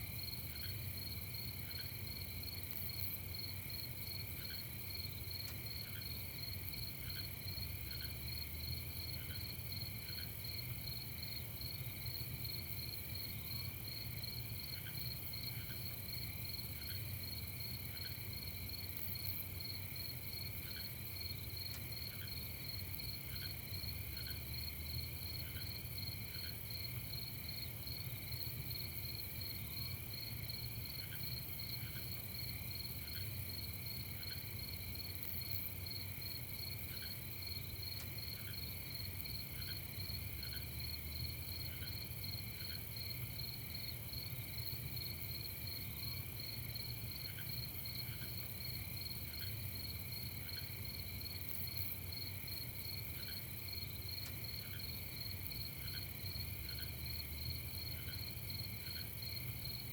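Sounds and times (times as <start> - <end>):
crickets trilling: 0.1 - 59.9.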